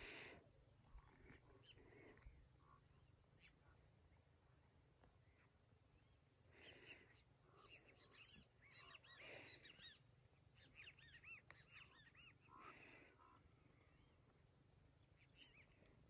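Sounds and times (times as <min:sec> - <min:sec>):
faint bird chirps: 0:00.8 - 0:04.4, 0:05.1 - 0:16.0.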